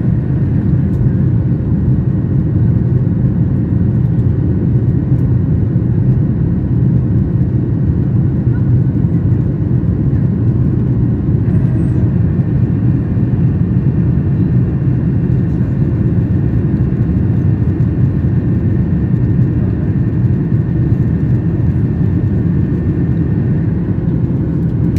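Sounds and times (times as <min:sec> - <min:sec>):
jet cabin engine rumble: 0:00.0 - 0:24.9.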